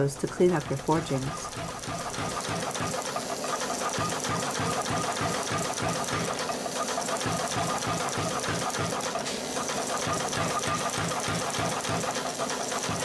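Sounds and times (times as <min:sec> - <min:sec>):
power hammer striking metal: 0:00.0 - 0:13.0.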